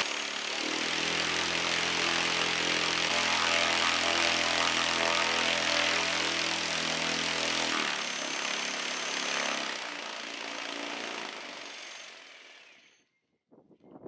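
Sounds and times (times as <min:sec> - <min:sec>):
garage door motor whirring: 0:00.0 - 0:13.0.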